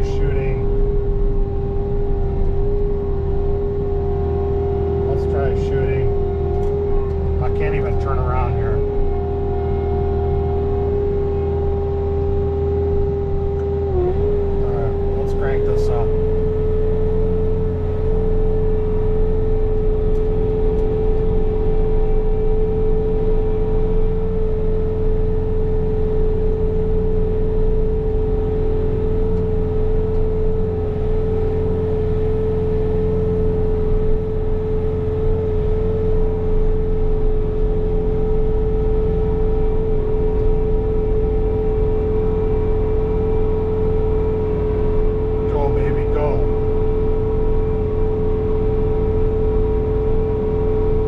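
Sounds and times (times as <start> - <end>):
engine drone: 0.0 - 51.0
snow blower whine: 0.0 - 51.0.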